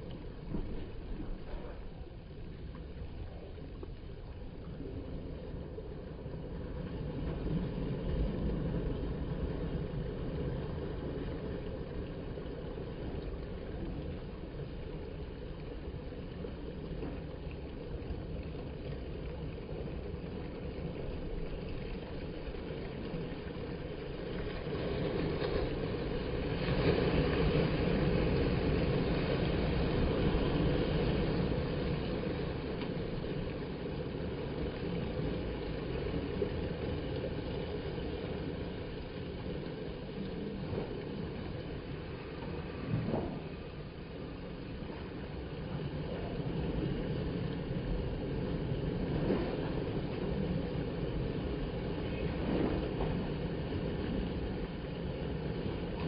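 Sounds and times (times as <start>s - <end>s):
sea water surging through channel: 0.0s - 56.0s.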